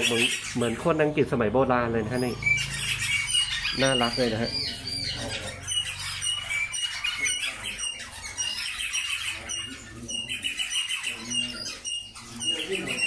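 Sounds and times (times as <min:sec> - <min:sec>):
canaries chirping and trilling: 0:00.0 - 0:13.0.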